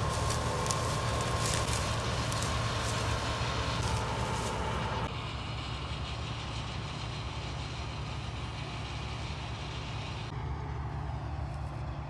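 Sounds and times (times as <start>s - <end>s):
combine harvester engine rumble: 0.0s - 12.0s.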